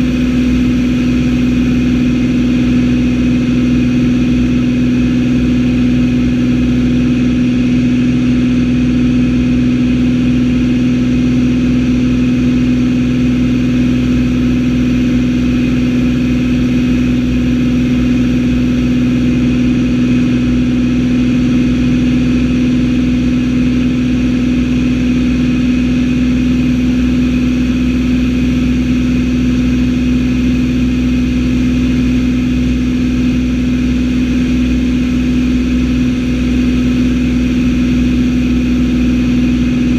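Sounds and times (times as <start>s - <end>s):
light airplane engine hum: 0.0s - 39.9s.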